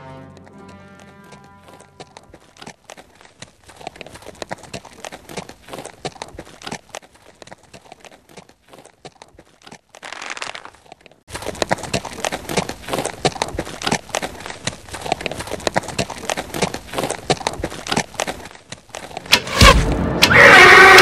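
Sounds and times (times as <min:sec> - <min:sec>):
horse hoofbeats clattering: 0:00.3 - 0:19.7.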